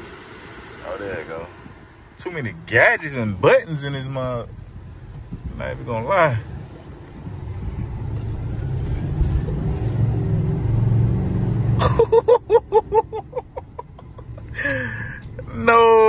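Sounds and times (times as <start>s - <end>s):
diesel pickup engine rumbling: 0.0s - 16.0s.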